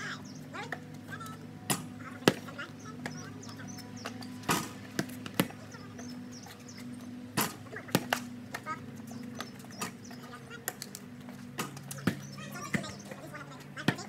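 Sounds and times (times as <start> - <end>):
basketball bouncing on concrete: 0.7 - 14.0.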